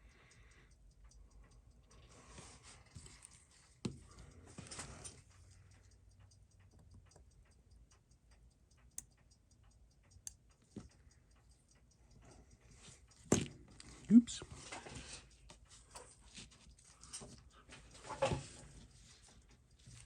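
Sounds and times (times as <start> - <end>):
mechanical clock ticking: 0.0 - 20.0.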